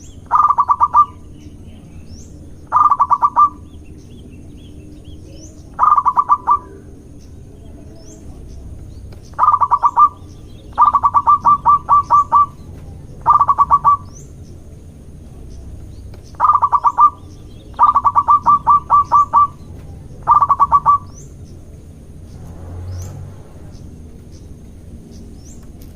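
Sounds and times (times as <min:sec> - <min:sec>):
dove cooing: 0:00.0 - 0:22.0
small birds chirping: 0:00.0 - 0:25.9.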